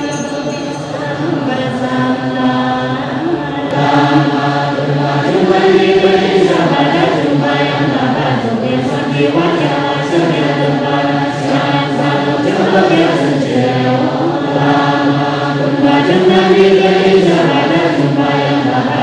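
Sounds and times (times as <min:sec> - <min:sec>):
group chanting: 0:00.0 - 0:19.0.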